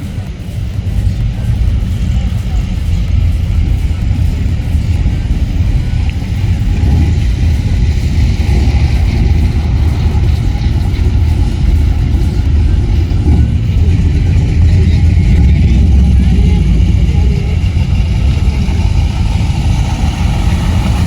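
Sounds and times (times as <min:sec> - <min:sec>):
vintage cars driving past: 0:00.0 - 0:21.0.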